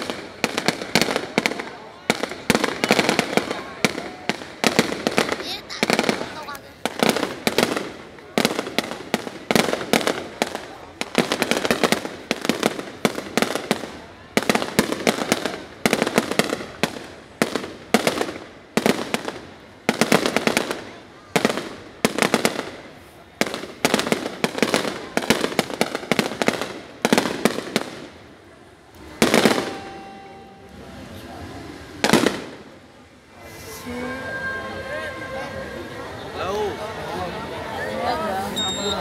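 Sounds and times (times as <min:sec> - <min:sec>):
fireworks bangs and crackles: 0:00.0 - 0:33.2.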